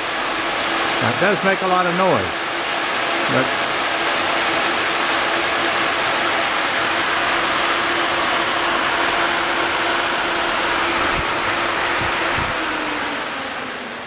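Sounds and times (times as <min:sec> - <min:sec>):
electric fan rushing air: 0:00.0 - 0:14.0
fan motor hum: 0:00.0 - 0:14.0.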